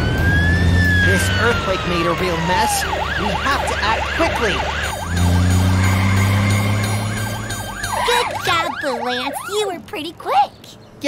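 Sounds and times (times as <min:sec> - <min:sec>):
cartoon siren yelping: 0:00.2 - 0:09.8.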